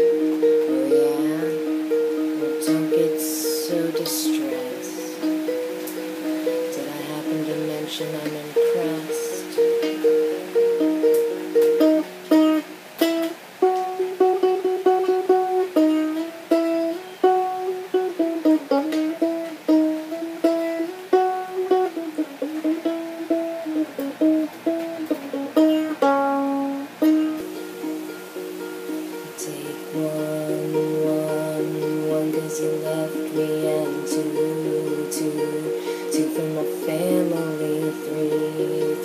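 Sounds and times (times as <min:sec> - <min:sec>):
mandolin picked melody: 0:00.0 - 0:39.0.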